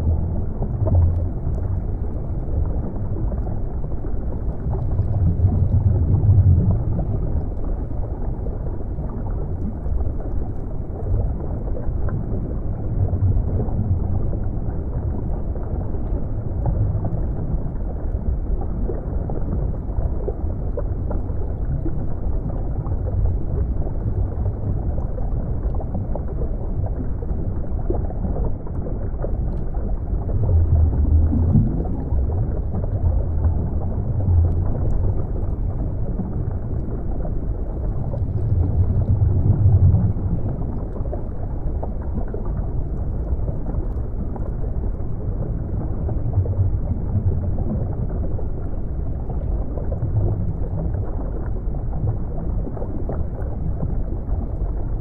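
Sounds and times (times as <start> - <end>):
muffled underwater rumbling: 0.0 - 55.0.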